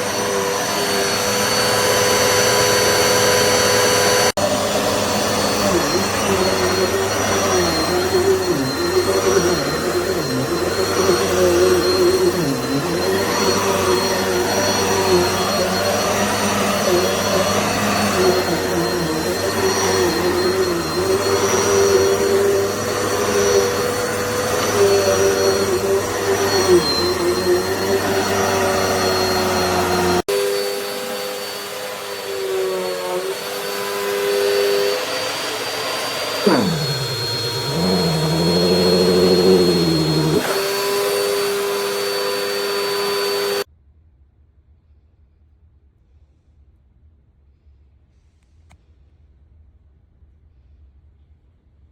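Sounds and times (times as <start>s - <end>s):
vacuum cleaner motor whine: 0.0s - 43.7s.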